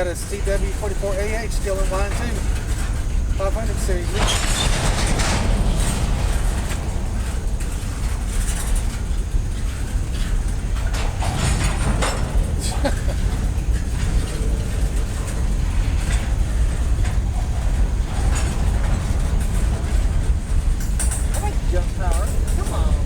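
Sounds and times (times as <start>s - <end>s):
freight train rumble: 0.0s - 23.0s
sharp clicks and squeaks: 0.6s - 23.0s.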